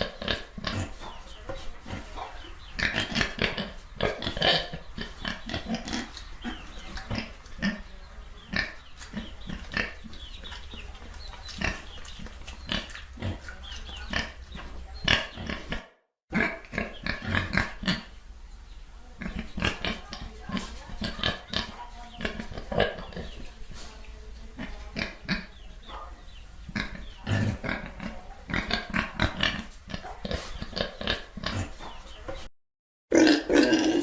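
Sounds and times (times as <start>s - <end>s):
pigs grunting and oinking: 0.0s - 18.1s, 19.2s - 23.5s, 24.6s - 25.6s, 26.7s - 32.1s, 33.1s - 34.0s.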